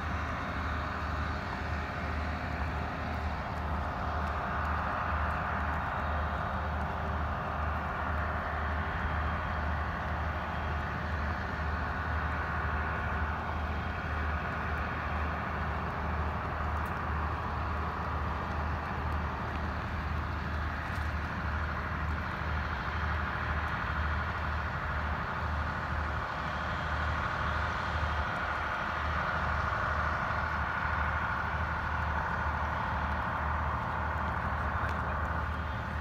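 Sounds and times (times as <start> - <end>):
vehicle driving slowly: 0.0 - 36.0.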